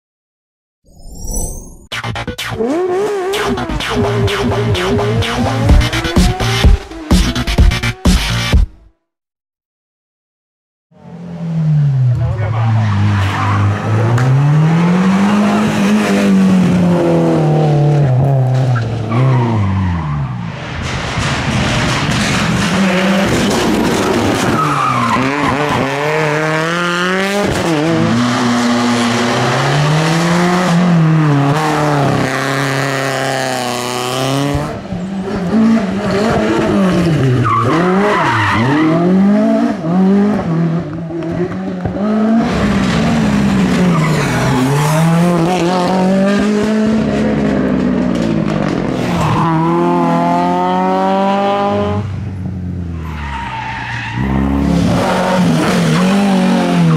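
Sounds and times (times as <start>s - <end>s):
rally car engine revving: 2.0s - 8.5s, 11.0s - 56.9s.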